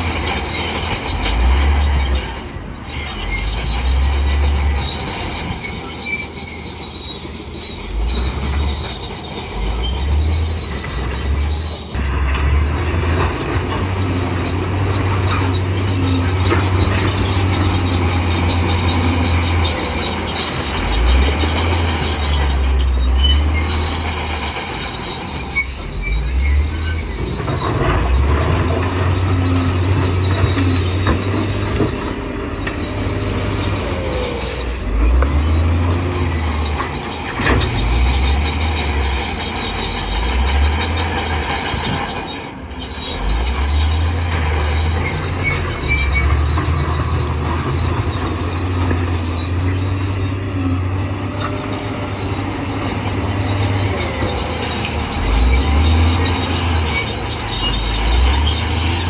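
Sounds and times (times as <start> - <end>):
bulldozer diesel engine: 0.0 - 59.0
steel tracks squealing and clanking: 0.0 - 59.0.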